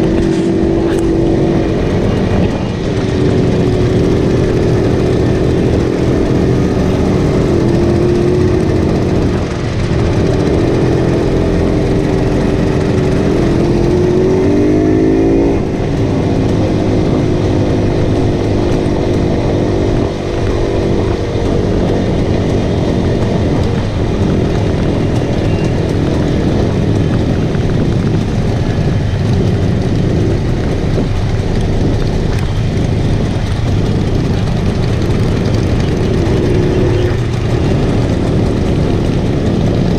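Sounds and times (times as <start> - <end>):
riding noise: 0.0 - 39.9
small motorcycle engine running: 0.0 - 39.9.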